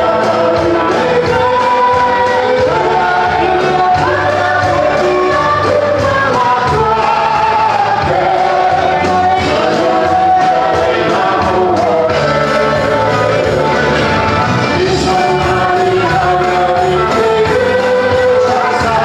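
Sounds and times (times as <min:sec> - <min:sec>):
congregation singing a hymn: 0:00.0 - 0:19.0
instrumental accompaniment: 0:00.0 - 0:19.0.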